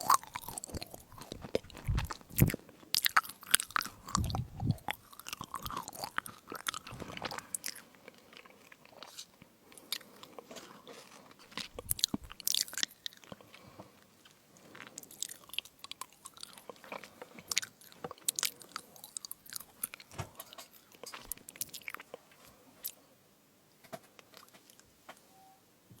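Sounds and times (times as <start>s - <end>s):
chewing crunchy crisps: 0.0s - 23.0s.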